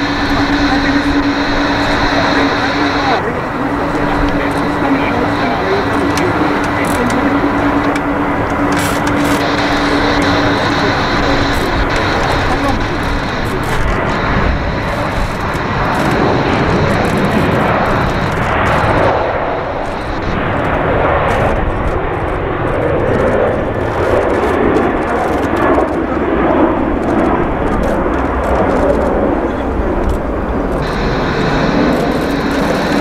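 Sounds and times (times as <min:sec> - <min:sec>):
jet airliner taking off: 0:00.0 - 0:33.0.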